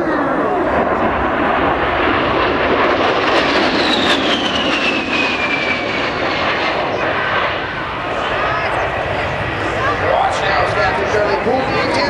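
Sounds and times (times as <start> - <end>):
aircraft rushing past: 0.0 - 12.0.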